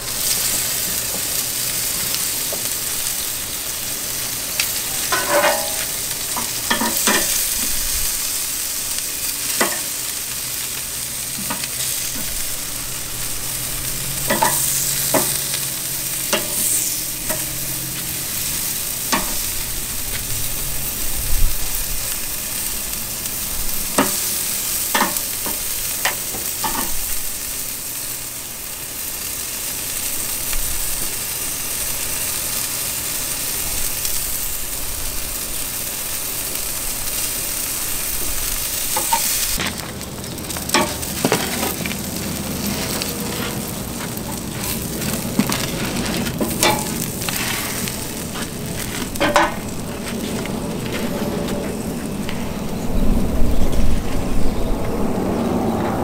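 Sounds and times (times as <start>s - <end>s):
meat sizzling on grill: 0.0s - 54.6s.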